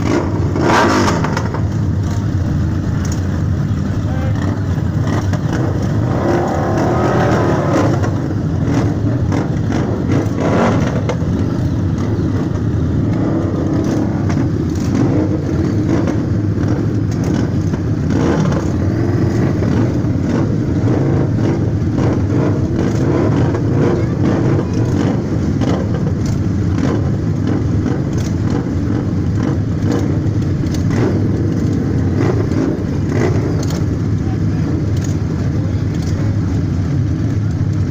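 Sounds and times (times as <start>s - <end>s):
motorcycle engines running: 0.0s - 37.9s.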